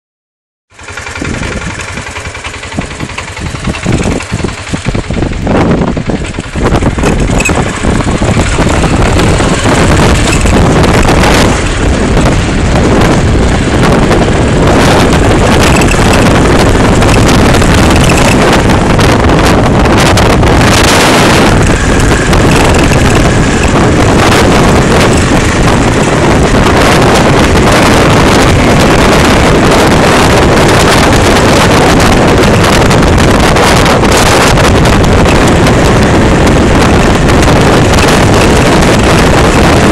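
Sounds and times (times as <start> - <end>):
motorcycle running: 0.7 - 39.9
wind rushing over microphone: 0.8 - 39.9.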